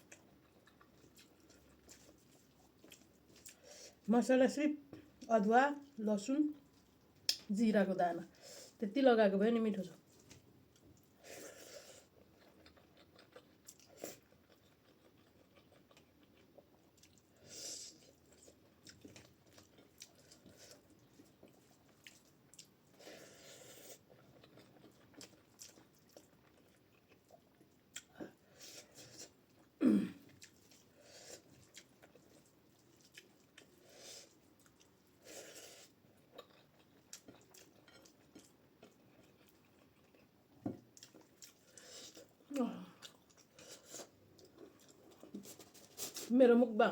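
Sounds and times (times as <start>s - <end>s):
wet chewing: 0.0s - 3.6s, 10.1s - 46.3s.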